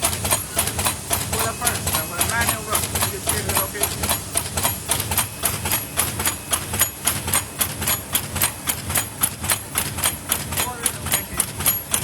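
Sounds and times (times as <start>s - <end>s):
low mechanical hum: 0.0s - 12.0s
machine mechanism clacking: 0.0s - 12.0s.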